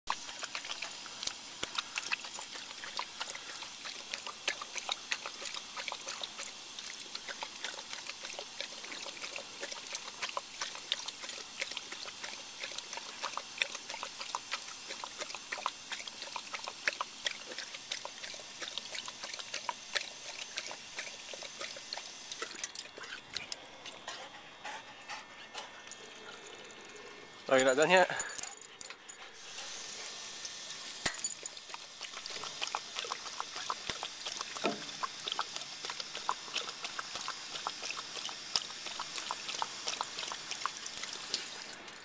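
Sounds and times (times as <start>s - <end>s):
dog lapping water: 0.1s - 26.4s, 31.1s - 42.0s.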